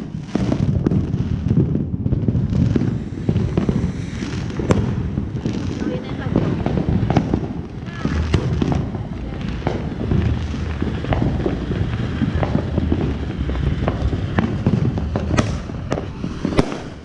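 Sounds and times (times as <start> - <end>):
firework fountain hissing: 0.0 - 17.0
firework pops: 0.0 - 17.0.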